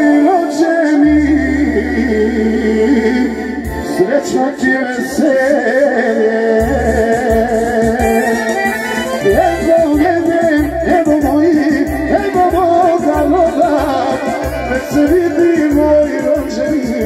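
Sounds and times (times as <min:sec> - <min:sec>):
amplified folk music with keyboard: 0:00.0 - 0:17.0.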